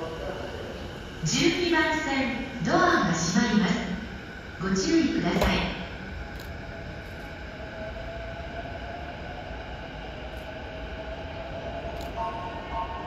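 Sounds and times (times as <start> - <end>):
faint train motor whine: 0.0 - 13.0
low rumble of train: 0.0 - 13.0.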